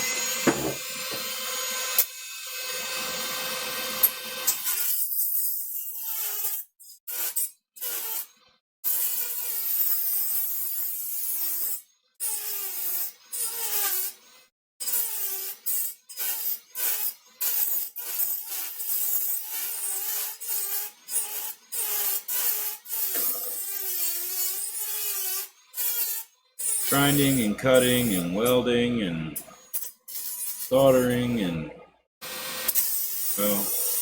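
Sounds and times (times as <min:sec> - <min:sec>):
rotary tool grinding metal: 0:00.0 - 0:28.7, 0:29.4 - 0:31.5, 0:32.2 - 0:34.0.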